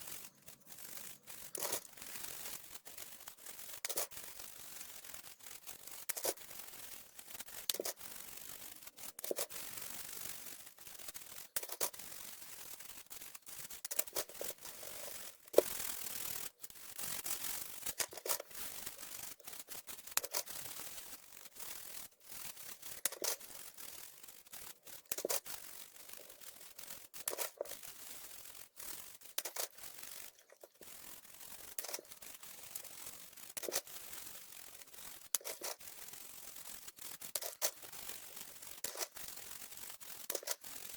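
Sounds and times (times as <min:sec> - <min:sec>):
hand scrubbing plastic keyboard: 0:00.0 - 0:04.4, 0:05.9 - 0:09.9, 0:11.1 - 0:40.9.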